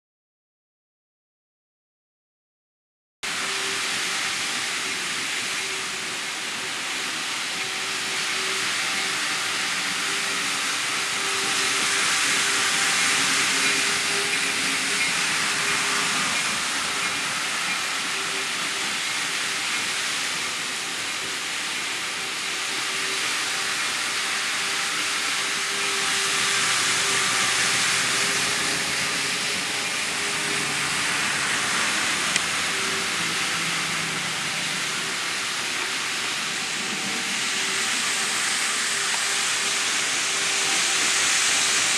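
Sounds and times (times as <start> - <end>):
model train wheels on rail: 3.2 - 41.9.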